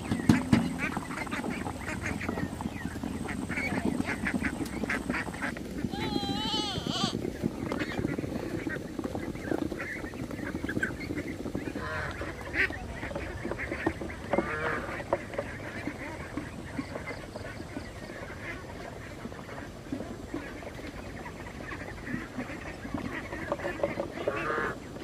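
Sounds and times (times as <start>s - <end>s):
waterfowl calling: 0.0s - 8.8s, 9.4s - 25.0s.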